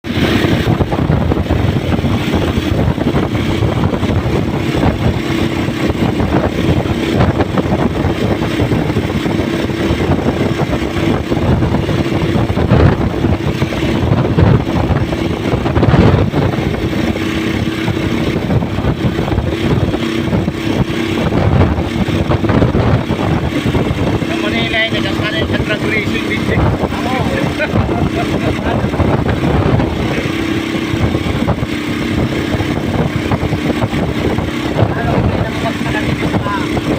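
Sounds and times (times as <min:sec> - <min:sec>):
motorcycle engine humming: 0:00.0 - 0:36.9
wind rumble on microphone: 0:00.0 - 0:36.9.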